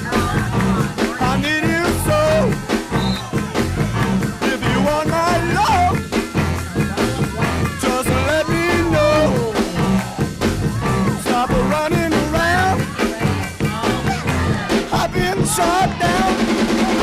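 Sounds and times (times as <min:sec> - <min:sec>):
person singing: 0:00.0 - 0:03.3, 0:04.3 - 0:06.0, 0:07.0 - 0:17.0
steady drum beat: 0:00.0 - 0:17.0.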